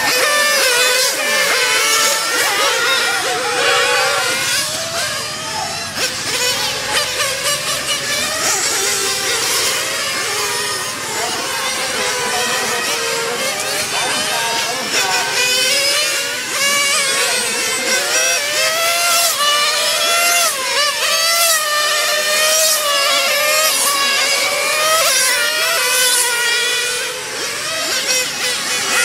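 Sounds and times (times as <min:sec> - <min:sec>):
remote-control car motors whining: 0:00.0 - 0:29.0.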